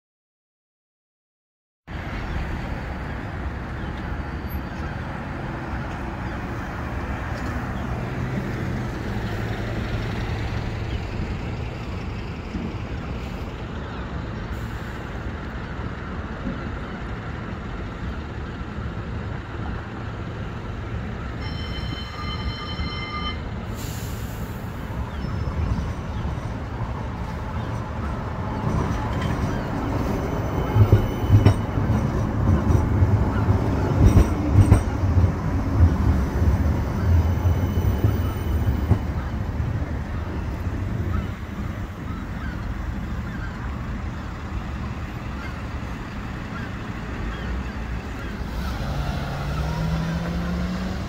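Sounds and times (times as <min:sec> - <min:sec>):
road traffic noise: 0:01.9 - 0:51.0
tram approaching: 0:01.9 - 0:51.0.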